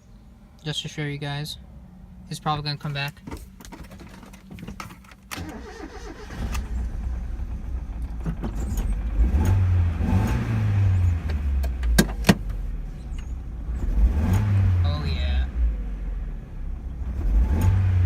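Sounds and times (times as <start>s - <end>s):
car engine starting and rumbling: 0.0s - 18.0s.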